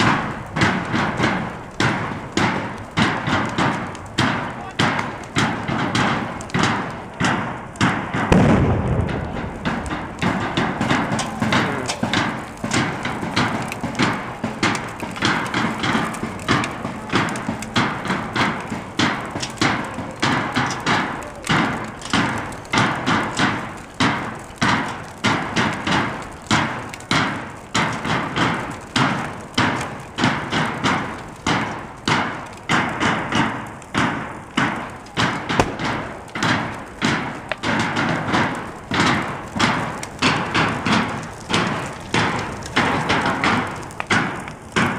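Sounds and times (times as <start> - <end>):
continuous background noise: 0.0 - 44.9
heavy rhythmic banging: 0.0 - 44.9.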